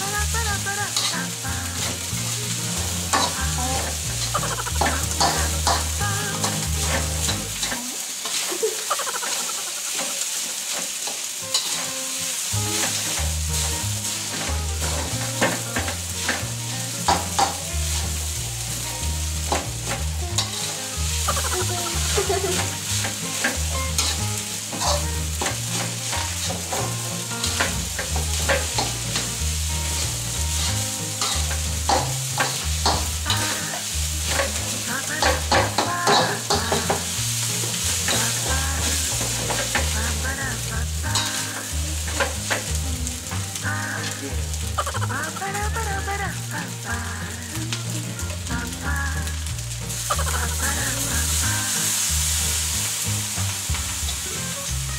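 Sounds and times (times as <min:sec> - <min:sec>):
rice sizzling in a wok: 0:00.0 - 0:54.9
metal spatula scraping a wok: 0:00.8 - 0:45.4.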